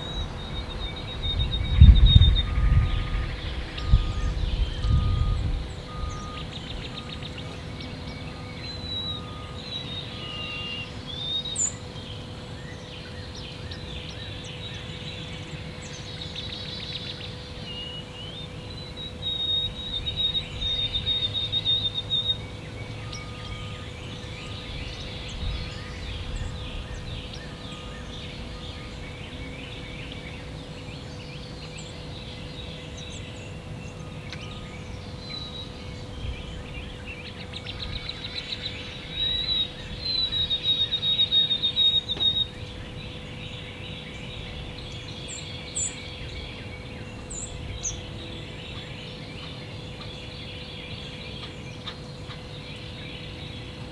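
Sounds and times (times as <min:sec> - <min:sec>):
bird calls: 0:00.0 - 0:53.9
faint steady hum: 0:00.0 - 0:53.9
songbird high trill: 0:00.0 - 0:53.9.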